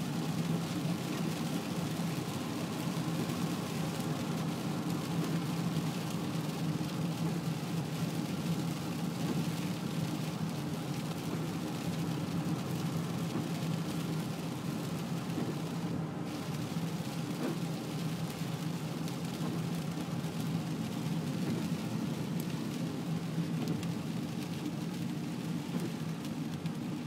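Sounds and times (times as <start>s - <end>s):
car engine and tyres on wet road: 0.0s - 27.0s
rain and spray hissing: 0.0s - 27.0s.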